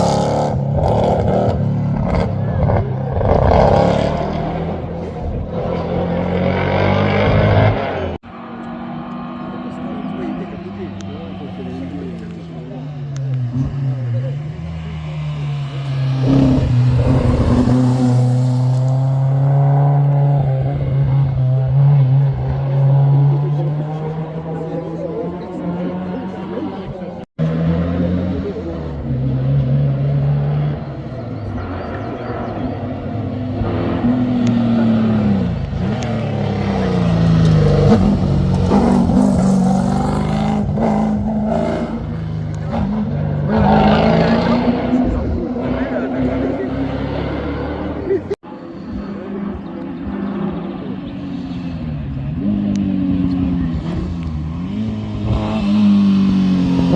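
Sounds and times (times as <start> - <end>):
racing car engine revving: 0.0 - 56.9.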